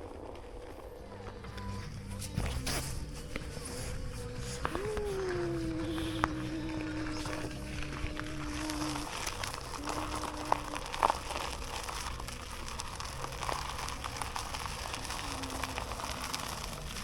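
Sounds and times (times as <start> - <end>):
faint background music: 0.0 - 17.0
rolling noise: 0.0 - 17.0.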